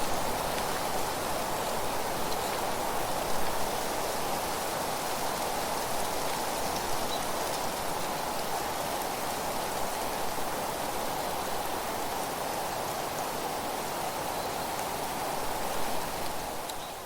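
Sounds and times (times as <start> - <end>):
wind rustling dry leaves: 0.0 - 17.0.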